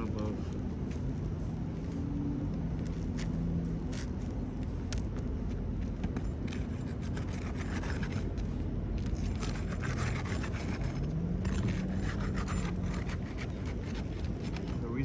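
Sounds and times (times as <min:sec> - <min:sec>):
steady low hum: 0:00.0 - 0:15.0
tool scraping under shingle: 0:02.8 - 0:15.0.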